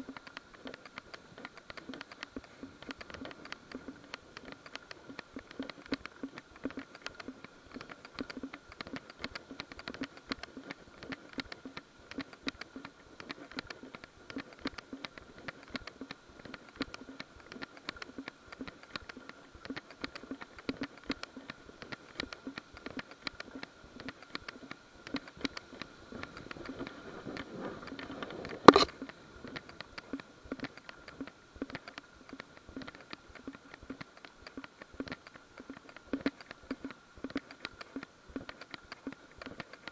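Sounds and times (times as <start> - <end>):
camera movement clicking and pattering: 0.0 - 39.9
faint steady whine: 0.0 - 39.9.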